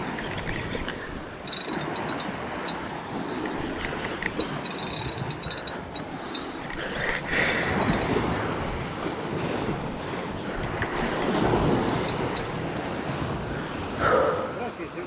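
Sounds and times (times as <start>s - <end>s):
sea waves on rocky shore: 0.0s - 15.0s.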